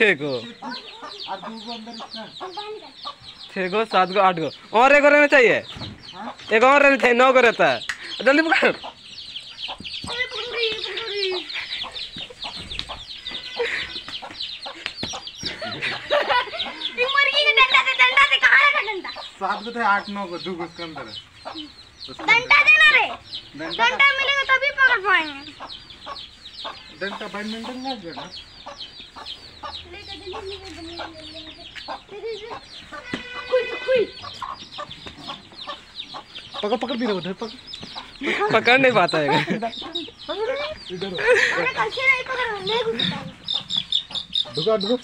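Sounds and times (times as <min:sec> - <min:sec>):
chicks peeping: 0:00.0 - 0:45.0
hen calls: 0:07.6 - 0:45.0.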